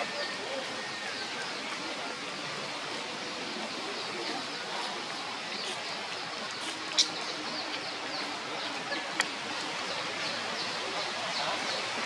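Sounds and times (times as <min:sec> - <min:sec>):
birds chirping: 0:00.0 - 0:12.0
steady rushing hiss: 0:00.1 - 0:12.0.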